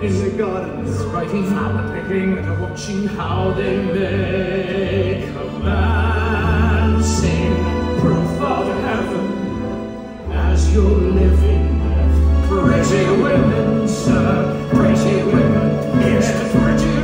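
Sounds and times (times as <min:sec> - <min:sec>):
orchestra playing slow passage: 0:00.0 - 0:17.0.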